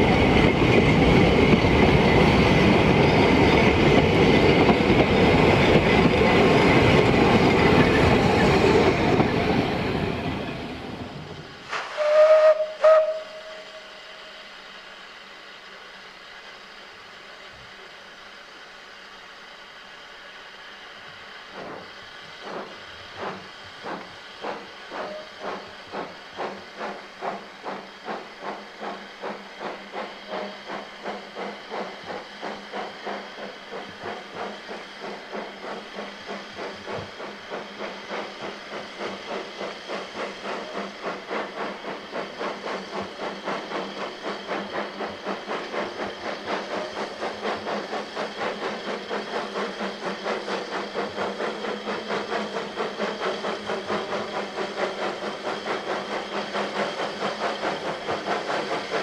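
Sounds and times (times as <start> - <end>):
steam hissing: 0.0 - 59.0
steam locomotive chuffing: 0.0 - 59.0.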